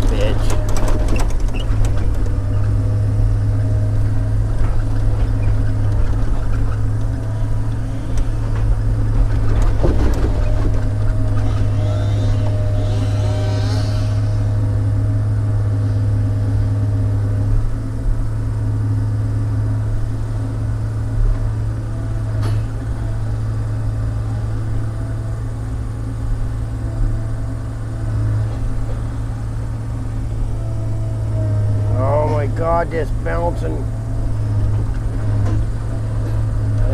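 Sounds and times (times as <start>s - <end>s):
diesel engine running under load: 0.0s - 36.9s.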